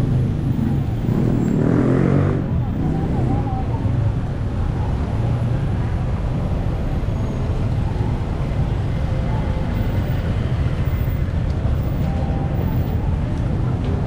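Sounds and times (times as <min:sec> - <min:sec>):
cars running: 0:00.0 - 0:14.0
low traffic rumble: 0:00.0 - 0:14.0
motorbikes running: 0:00.0 - 0:14.0.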